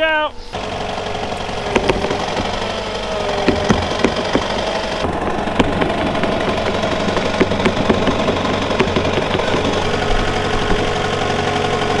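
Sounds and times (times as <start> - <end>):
loader engine whining: 0.0 - 12.0
sharp clicks and knocks: 0.6 - 11.3.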